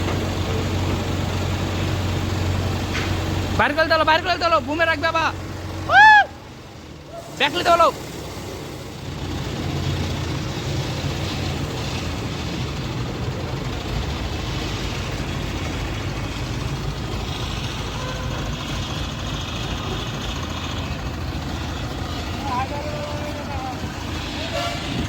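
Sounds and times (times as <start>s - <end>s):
crane diesel engine running: 0.0s - 25.0s.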